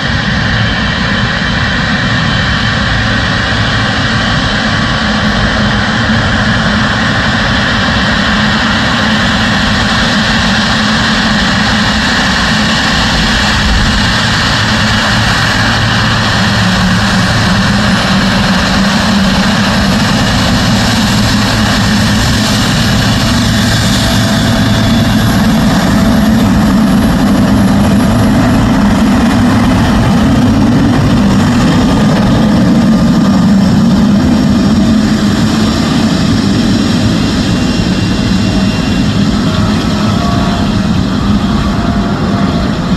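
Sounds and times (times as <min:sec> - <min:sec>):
jet engines running loud: 0:00.0 - 0:42.9.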